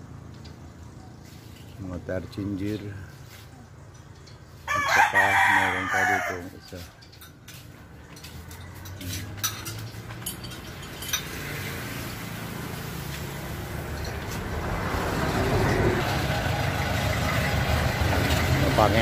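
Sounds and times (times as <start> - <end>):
vehicle engine approaching and idling: 0.0 - 4.7, 7.7 - 19.0.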